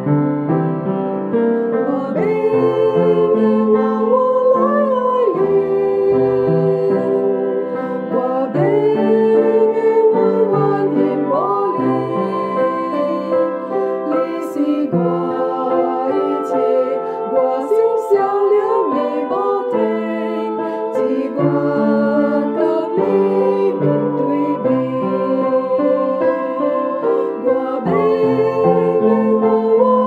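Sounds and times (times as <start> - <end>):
keyboard accompaniment: 0.0 - 30.0
person singing a hymn: 1.6 - 30.0.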